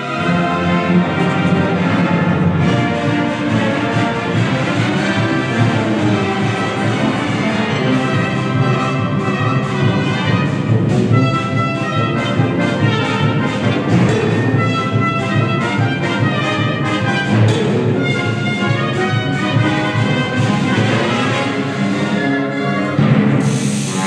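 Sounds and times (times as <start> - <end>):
orchestra and brass playing film music: 0.0 - 24.0.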